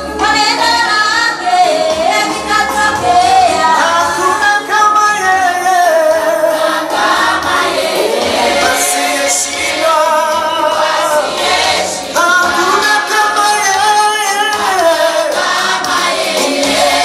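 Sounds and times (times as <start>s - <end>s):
group singing gospel song: 0.0s - 17.0s.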